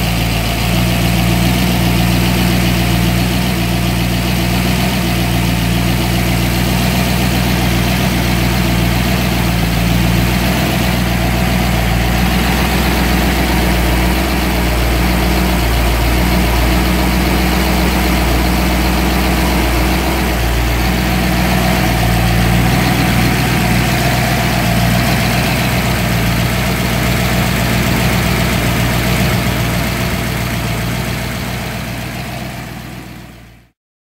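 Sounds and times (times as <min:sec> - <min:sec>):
v eight engine idling: 0:00.0 - 0:33.7.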